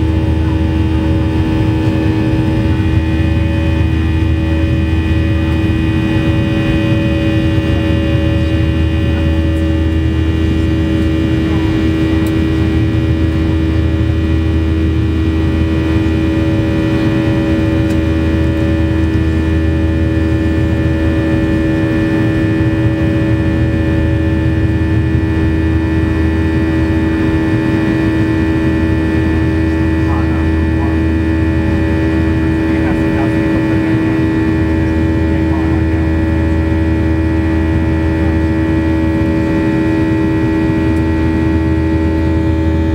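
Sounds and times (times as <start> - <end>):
jet engine drone: 0.0 - 42.9.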